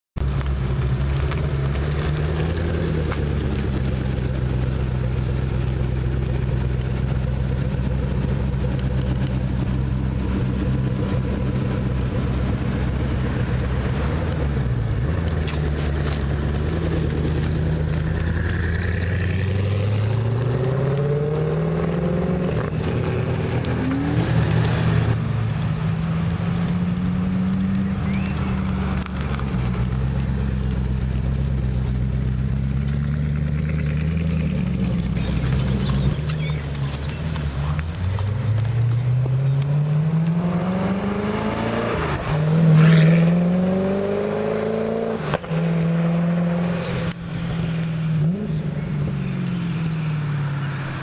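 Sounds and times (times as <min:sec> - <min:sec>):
car engine at low revs: 0:00.2 - 0:51.0.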